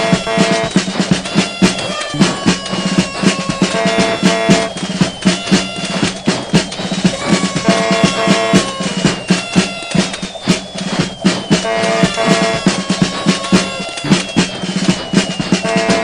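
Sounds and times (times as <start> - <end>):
music with drum beat: 0.0 - 16.0.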